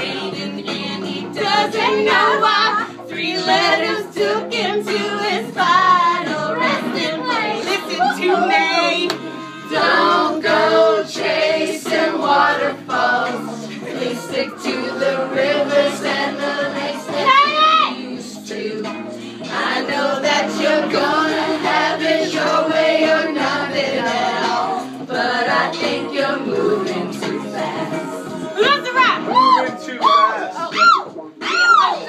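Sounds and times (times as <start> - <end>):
several voices singing: 0.0 - 32.0.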